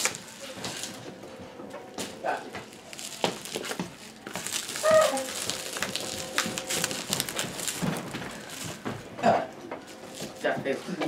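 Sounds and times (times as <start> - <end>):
bubble wrap crinkling: 0.0 - 1.3, 1.9 - 11.0.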